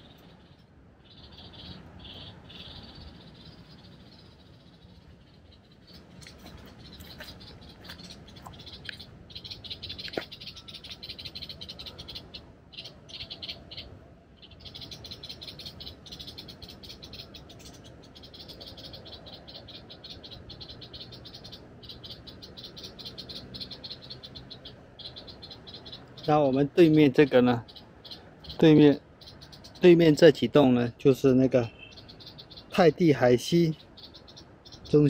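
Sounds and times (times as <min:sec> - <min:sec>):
frogs trilling in chorus: 0:00.0 - 0:35.0.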